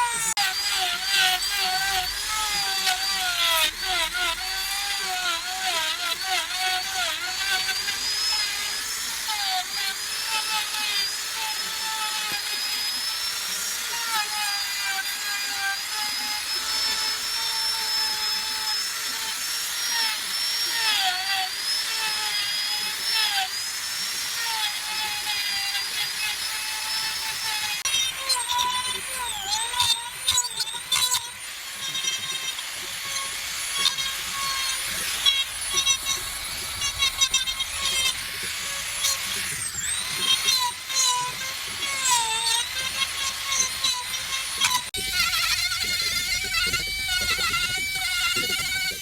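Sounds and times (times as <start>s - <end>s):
chainsaw carving wood: 0.0s - 49.0s.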